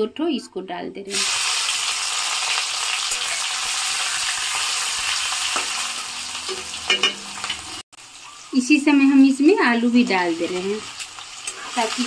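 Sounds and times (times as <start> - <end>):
onions sizzling in hot oil: 1.1 - 12.0.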